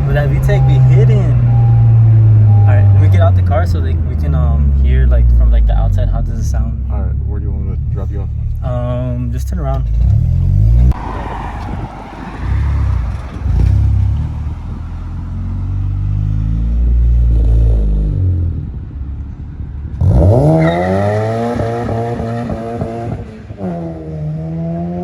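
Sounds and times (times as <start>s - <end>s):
car engine and exhaust rumbling: 0.0s - 25.0s.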